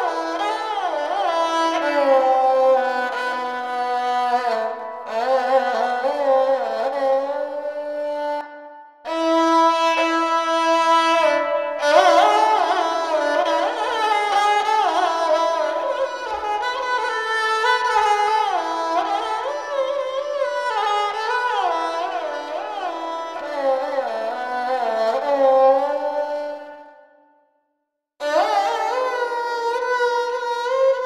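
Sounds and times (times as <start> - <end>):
bowed string melody: 0.0 - 27.0.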